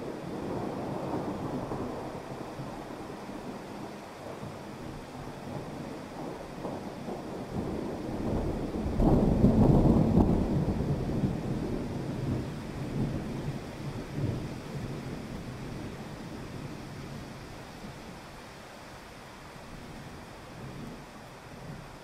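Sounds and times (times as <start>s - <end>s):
steady rain: 0.0s - 22.0s
thunder rumble: 0.1s - 18.1s.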